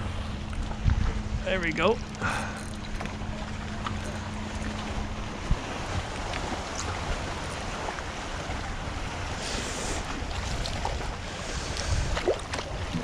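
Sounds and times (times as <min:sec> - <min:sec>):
wind buffeting microphone: 0:00.0 - 0:09.4, 0:10.0 - 0:13.0
water noise around boat: 0:00.0 - 0:13.0.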